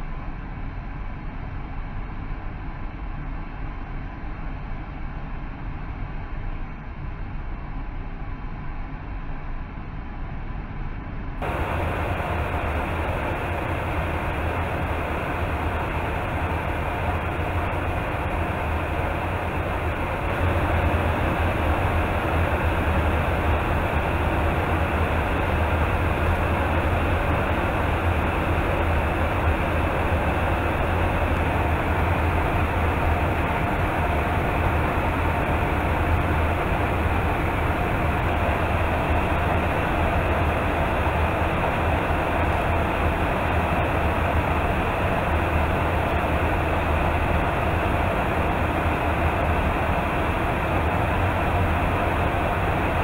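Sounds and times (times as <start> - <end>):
aircraft airflow and engine roar: 0.0 - 53.0
constant low drone: 0.0 - 53.0.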